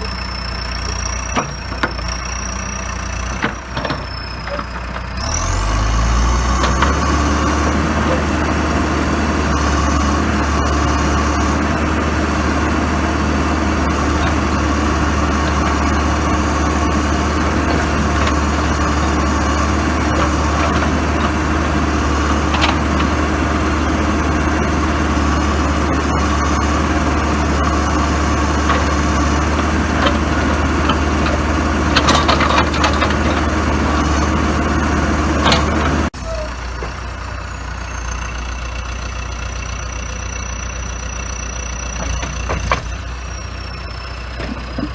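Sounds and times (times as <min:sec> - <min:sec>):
diesel engine humming: 0:00.0 - 0:44.9.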